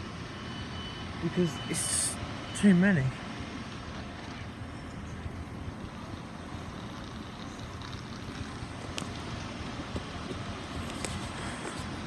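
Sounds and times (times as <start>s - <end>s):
railway station rumble and hiss: 0.0s - 12.0s.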